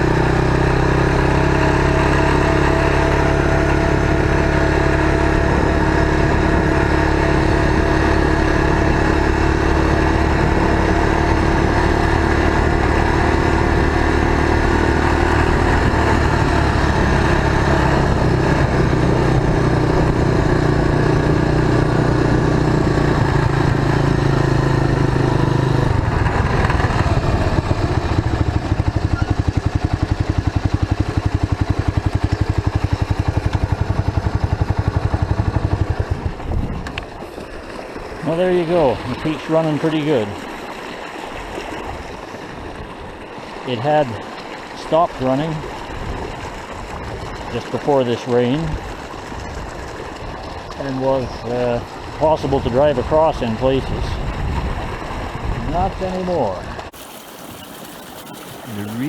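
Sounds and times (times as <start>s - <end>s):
motorcycle trike engine running: 0.0s - 40.4s, 43.7s - 59.0s.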